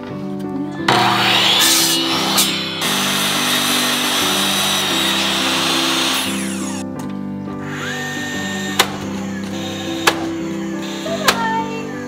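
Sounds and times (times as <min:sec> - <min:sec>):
background music: 0:00.0 - 0:12.0
power tool whine: 0:00.7 - 0:06.9, 0:07.5 - 0:12.0
power tool whirring: 0:00.8 - 0:06.9, 0:07.5 - 0:12.0.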